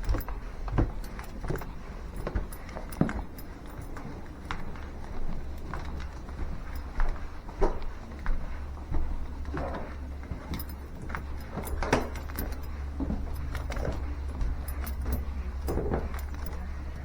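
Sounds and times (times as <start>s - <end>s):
footsteps: 0.0s - 17.0s
keys jingling: 0.0s - 17.0s
steady low hum: 0.0s - 17.0s.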